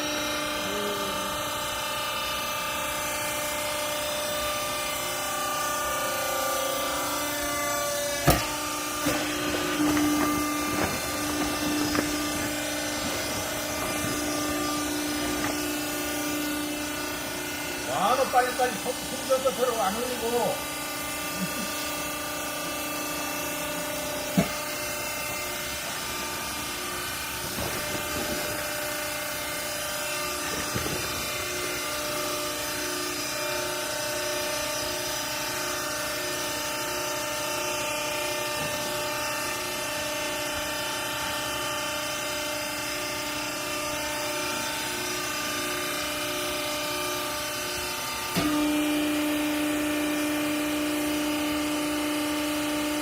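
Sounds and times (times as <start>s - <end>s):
motor and hydraulic pump humming: 0.0s - 53.0s.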